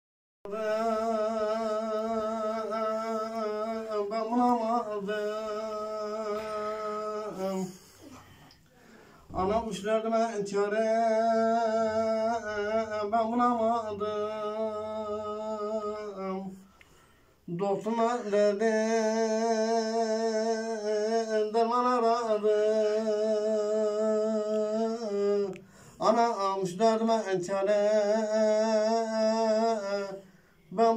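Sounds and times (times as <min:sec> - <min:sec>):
man singing unaccompanied: 0:00.5 - 0:08.2, 0:09.2 - 0:16.8, 0:17.4 - 0:30.9.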